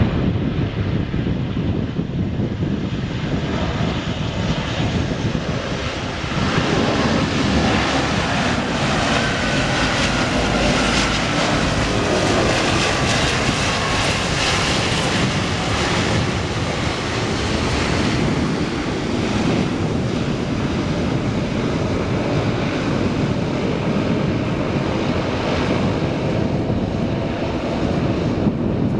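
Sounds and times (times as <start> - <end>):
propeller airliner engines: 0.0 - 28.9.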